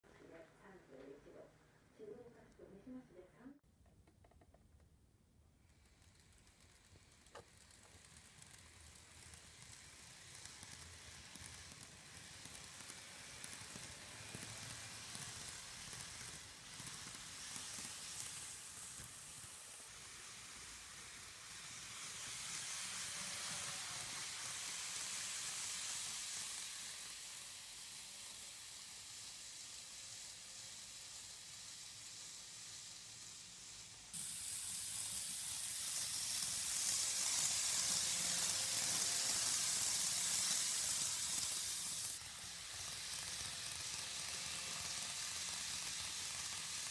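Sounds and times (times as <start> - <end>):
model train wheels and motor hiss: 5.3 - 46.9.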